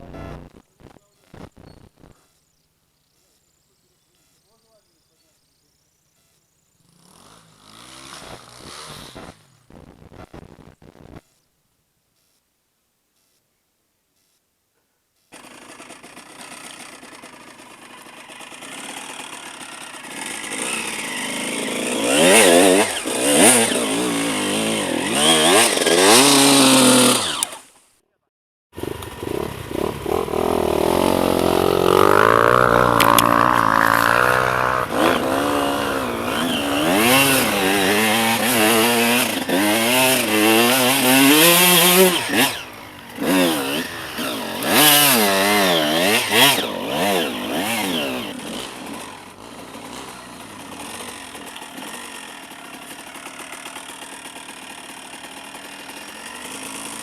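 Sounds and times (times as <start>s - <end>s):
motorcycle engine revving: 0.0s - 0.6s, 6.8s - 11.2s, 15.3s - 27.7s, 28.8s - 57.0s.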